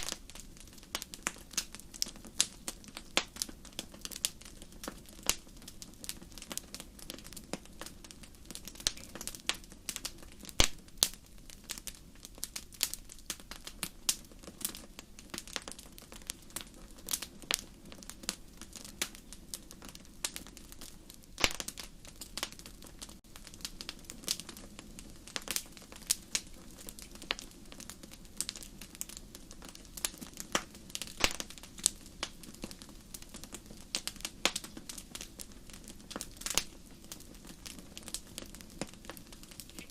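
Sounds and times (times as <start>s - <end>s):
campfire crackling and popping: 0.0s - 39.9s
soft steady hiss: 0.0s - 39.9s.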